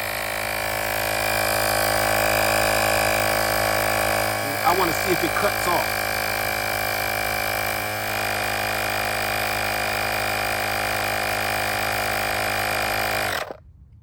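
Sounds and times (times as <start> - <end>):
air compressor buzzing: 0.0 - 13.6.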